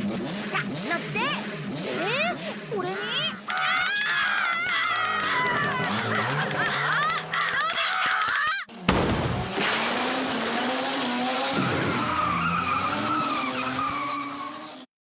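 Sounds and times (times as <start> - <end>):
cartoon car engine: 0.0 - 14.9
tyres skidding: 0.1 - 14.9.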